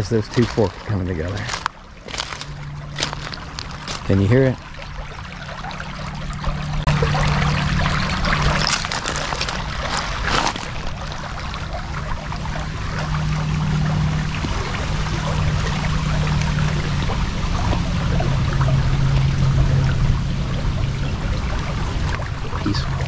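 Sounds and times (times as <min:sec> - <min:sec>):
creek water trickling over pebbles: 0:00.0 - 0:23.0.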